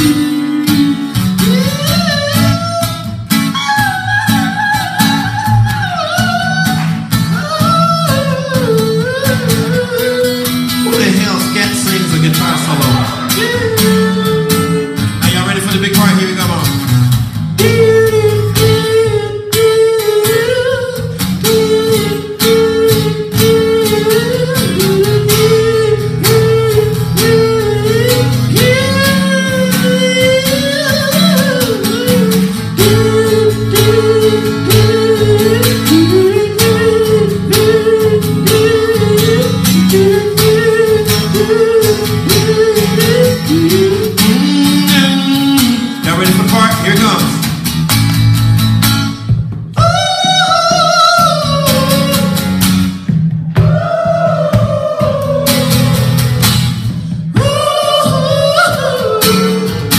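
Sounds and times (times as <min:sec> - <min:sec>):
man singing into a microphone: 0:00.0 - 0:16.8, 0:17.6 - 0:47.5, 0:49.8 - 0:52.5, 0:57.3 - 0:59.9
strummed acoustic guitar: 0:00.0 - 0:59.9.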